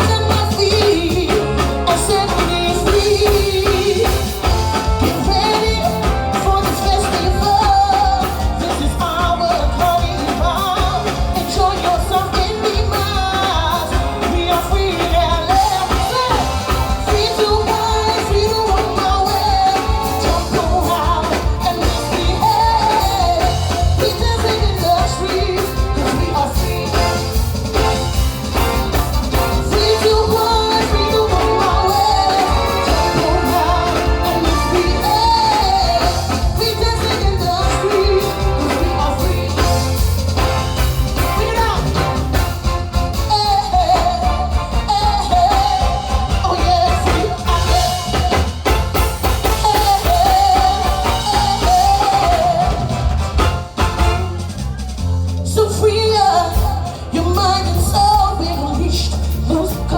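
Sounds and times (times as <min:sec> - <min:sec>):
woman singing: 0:00.0 - 0:53.2, 0:55.4 - 0:59.9
live soca band with bass beat: 0:00.0 - 0:59.9.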